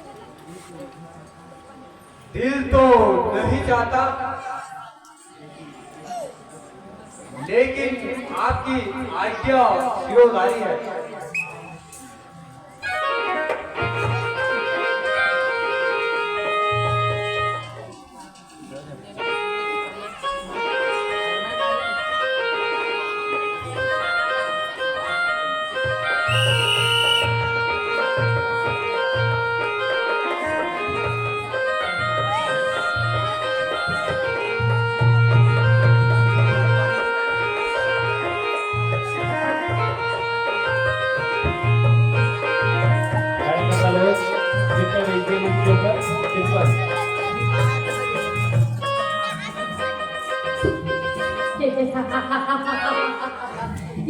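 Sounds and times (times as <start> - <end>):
organ-like keyboard melody: 7.4 - 54.0.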